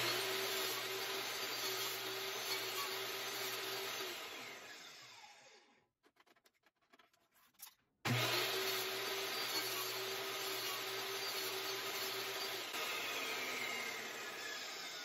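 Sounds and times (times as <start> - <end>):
saw blade spinning down: 0.0 - 5.6, 8.1 - 15.0
table saw running: 0.0 - 5.6, 8.1 - 15.0.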